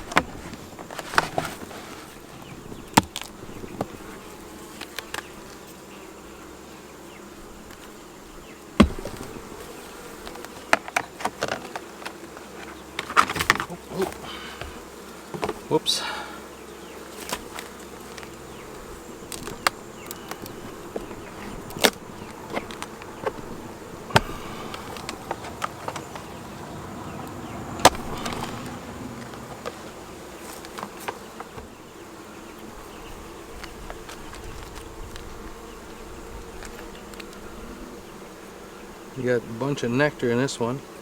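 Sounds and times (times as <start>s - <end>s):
honeybees buzzing: 0.0s - 41.0s.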